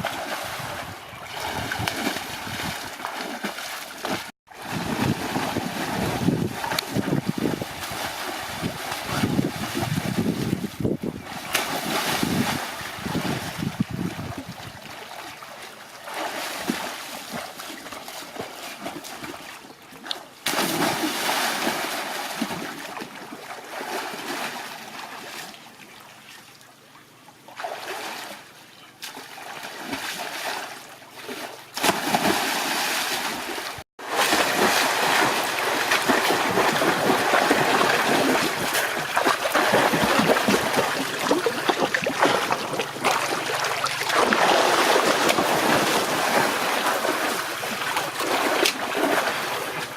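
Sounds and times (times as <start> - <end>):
water splashing and trickling: 0.0 - 26.8, 27.4 - 49.9.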